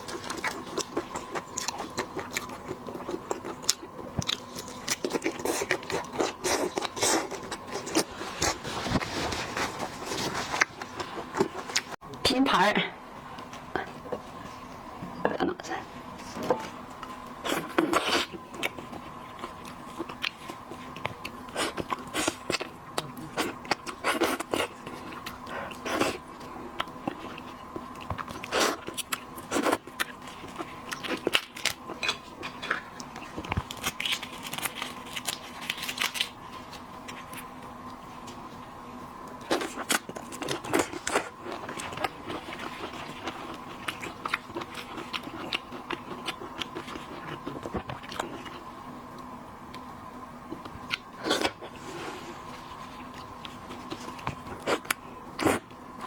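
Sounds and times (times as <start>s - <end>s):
crunching and chewing: 0.0s - 12.0s, 16.2s - 38.5s, 39.2s - 56.0s
faint steady hum: 0.0s - 56.0s.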